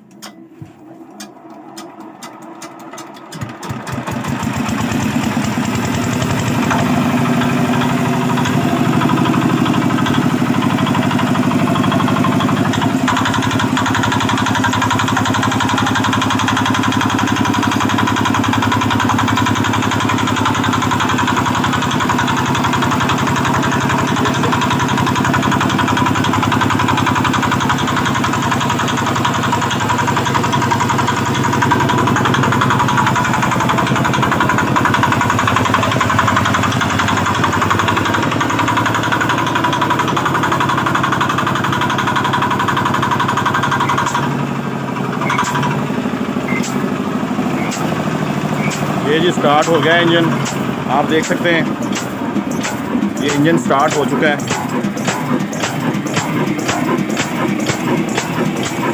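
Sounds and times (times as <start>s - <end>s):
small engine starting and running: 0.1s - 58.9s.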